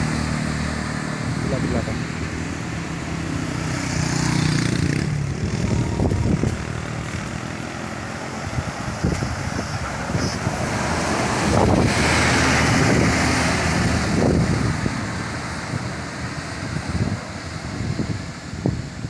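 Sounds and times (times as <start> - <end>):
bus engine drone: 0.0 - 19.0
road and wind noise: 0.0 - 19.0.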